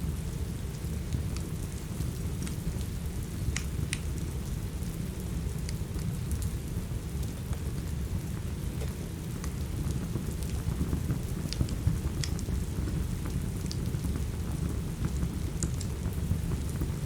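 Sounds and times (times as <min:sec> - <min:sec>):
steady rain: 0:00.0 - 0:17.0
wood fire crackling: 0:00.3 - 0:17.0.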